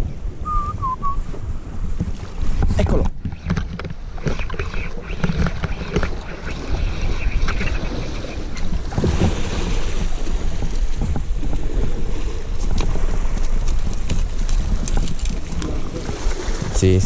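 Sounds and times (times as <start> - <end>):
wind buffeting microphone: 0.0 - 17.0
waves washing on rocky shore: 2.0 - 17.0.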